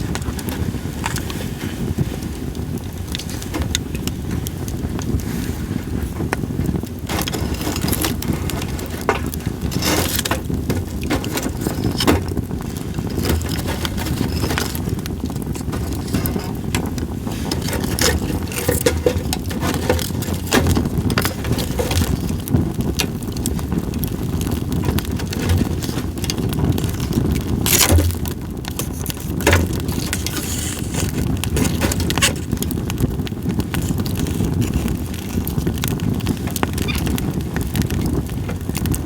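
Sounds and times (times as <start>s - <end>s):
campfire crackling and popping: 0.0s - 39.0s
low fire rush: 0.0s - 39.0s.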